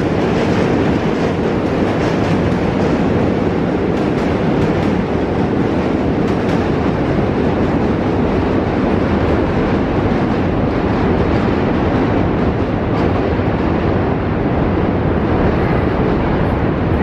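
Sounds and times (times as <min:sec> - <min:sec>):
subway train rumbling over bridge: 0:00.0 - 0:17.0.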